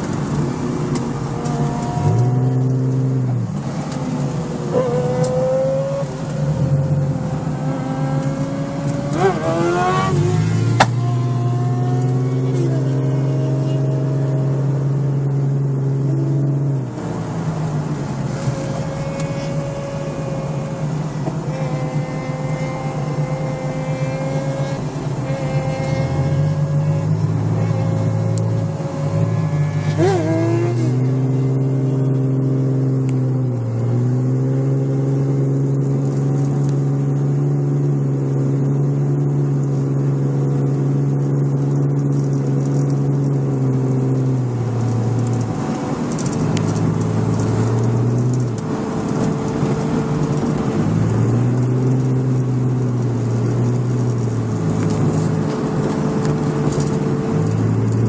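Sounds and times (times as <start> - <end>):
car engine and road noise drone: 0.0 - 58.0.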